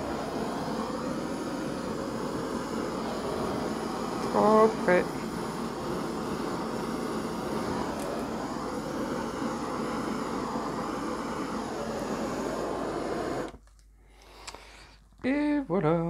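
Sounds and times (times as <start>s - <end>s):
torch flame rushing: 0.0s - 13.6s.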